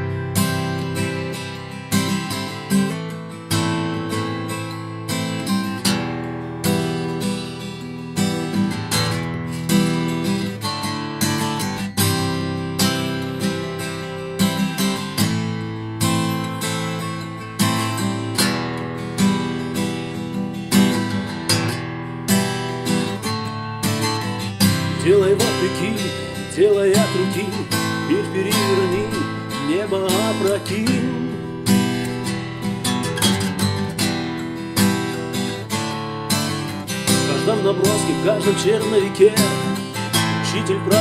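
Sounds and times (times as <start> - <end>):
acoustic guitar strumming chords: 0.0 - 41.0.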